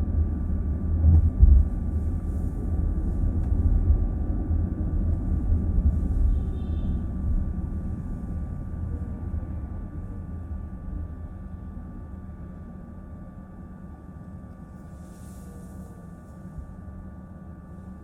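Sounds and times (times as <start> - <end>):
road and tyre rumble inside car: 0.0 - 18.0.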